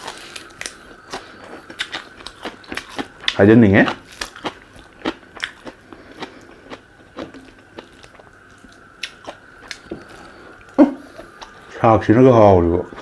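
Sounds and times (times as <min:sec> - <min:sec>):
person chewing with mouth clicks: 0:00.0 - 0:11.7.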